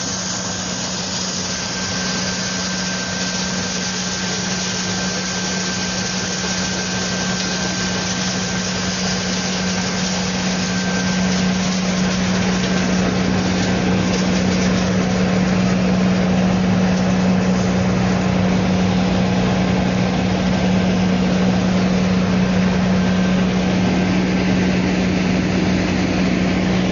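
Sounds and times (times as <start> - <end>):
wood chipper running: 0.0 - 26.9.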